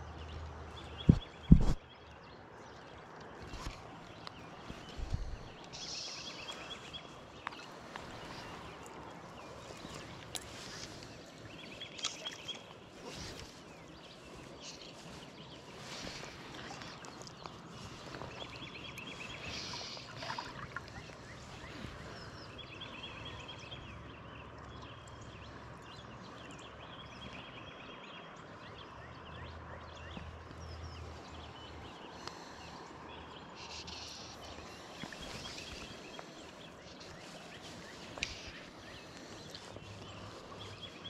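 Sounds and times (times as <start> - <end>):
birds chirping and trilling: 0.0 - 41.0.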